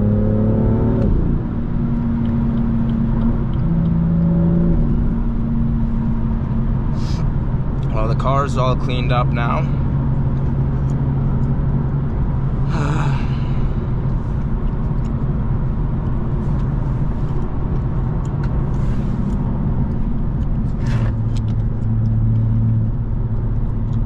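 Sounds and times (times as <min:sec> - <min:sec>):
car engine idling: 0:01.4 - 0:24.0.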